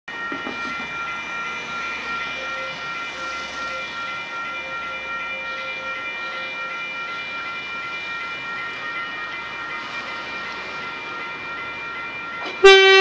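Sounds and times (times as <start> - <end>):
level crossing bell ringing: 0.1 - 13.0.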